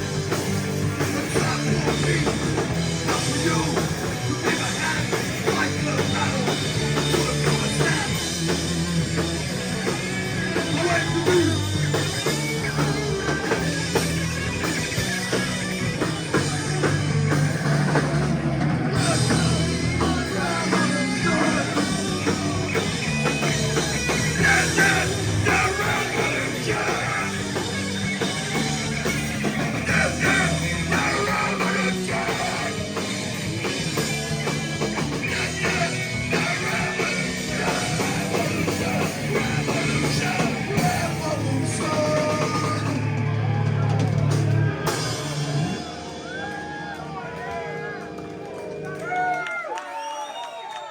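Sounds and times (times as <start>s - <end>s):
drum kit: 0.0s - 49.4s
rock band playing live: 0.0s - 49.6s.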